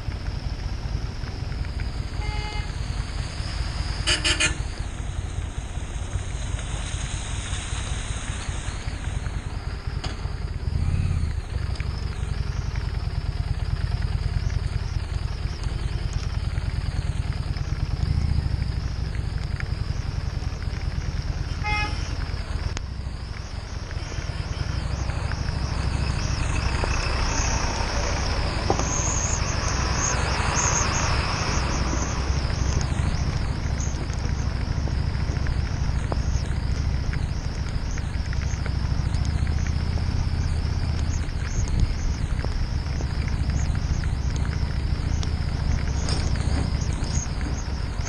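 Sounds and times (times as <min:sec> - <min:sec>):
motorcycle engine low rumble: 0:00.0 - 0:48.0
tyres through water and mud: 0:00.0 - 0:48.0
wind and rain on microphone: 0:00.0 - 0:48.0.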